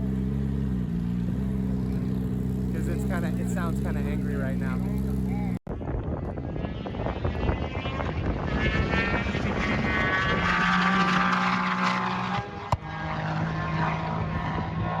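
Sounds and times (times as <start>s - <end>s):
car engine running rough: 0.0s - 15.0s.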